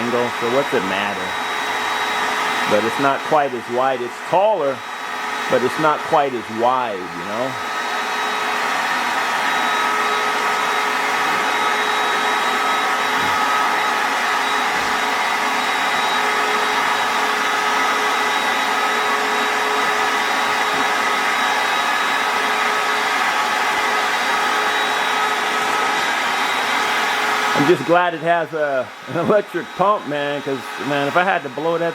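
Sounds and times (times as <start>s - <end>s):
electric air pump whirring: 0.0s - 31.9s.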